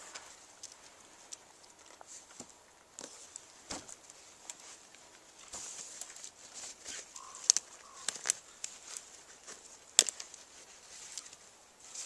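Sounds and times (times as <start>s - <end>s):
tarp rope rustling and clicking: 0.0s - 12.0s.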